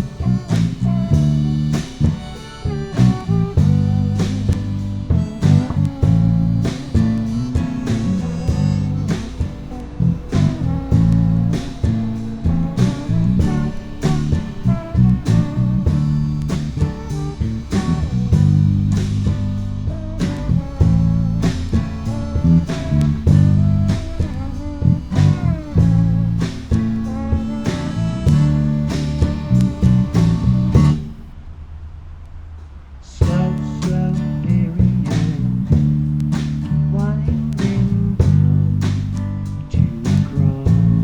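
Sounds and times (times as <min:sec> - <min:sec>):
bass guitar: 0:00.0 - 0:31.5, 0:33.0 - 0:41.0
steady drum beat: 0:00.0 - 0:31.5, 0:32.4 - 0:41.0.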